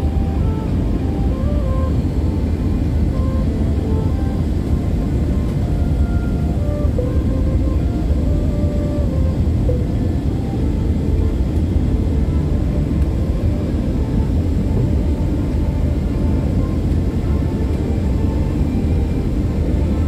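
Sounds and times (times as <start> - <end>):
jet cabin engine rumble: 0.0 - 20.0.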